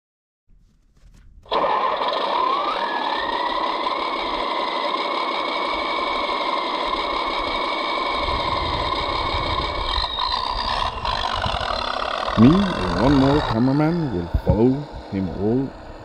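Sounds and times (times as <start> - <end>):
diesel engine starting and idling: 1.5 - 16.0.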